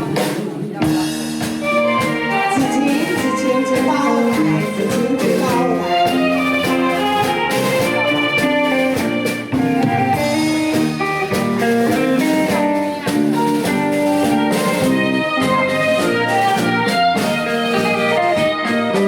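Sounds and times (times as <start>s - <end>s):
steady drum beat: 0.0s - 19.0s
instrumental melody of held notes: 0.8s - 19.0s.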